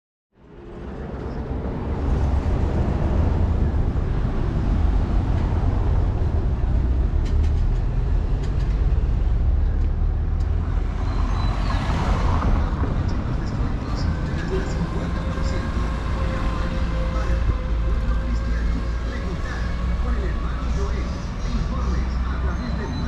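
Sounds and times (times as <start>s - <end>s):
city street traffic rumble: 0.3s - 23.0s.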